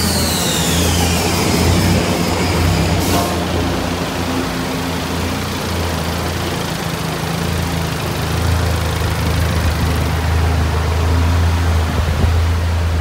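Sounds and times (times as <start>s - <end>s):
car engine idling: 0.0s - 13.0s
cooling fans rushing air: 0.0s - 13.0s.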